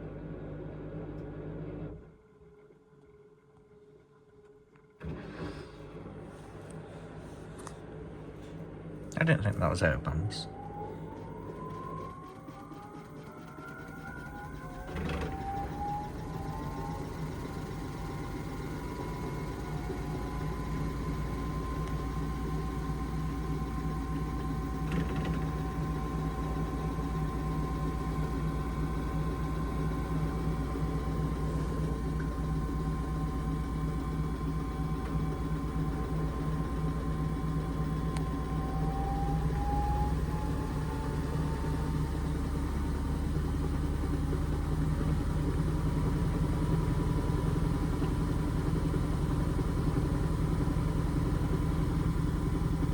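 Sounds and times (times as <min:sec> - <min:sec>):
washing machine motor whining: 0:05.0 - 0:52.9.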